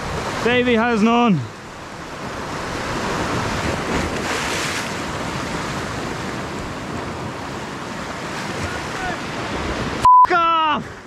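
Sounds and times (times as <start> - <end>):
surf breaking over rocks: 0.0 - 11.0.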